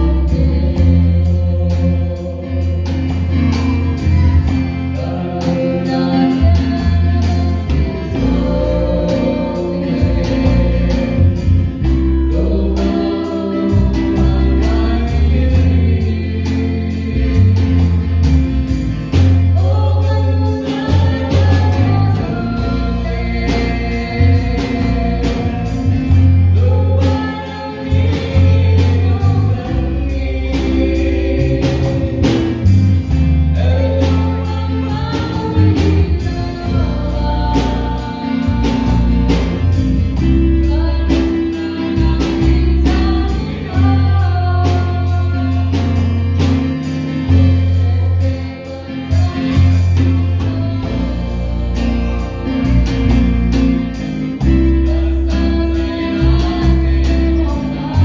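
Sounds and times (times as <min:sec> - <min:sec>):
woman and man singing duet: 0:00.0 - 0:18.1, 0:19.2 - 0:32.8, 0:33.5 - 0:58.0
music with bass and beat: 0:00.0 - 0:58.0.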